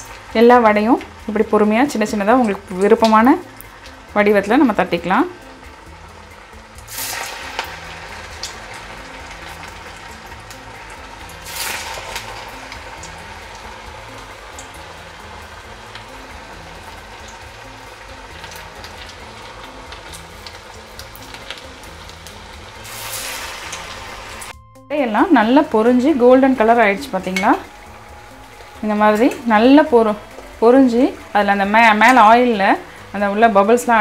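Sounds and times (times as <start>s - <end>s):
food deep-frying in oil: 0.0s - 24.6s, 25.2s - 34.0s.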